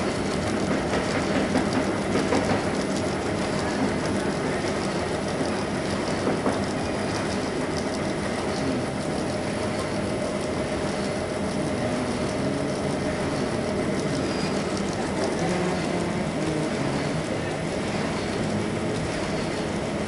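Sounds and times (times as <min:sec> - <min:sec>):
printing machine running: 0:00.0 - 0:20.0.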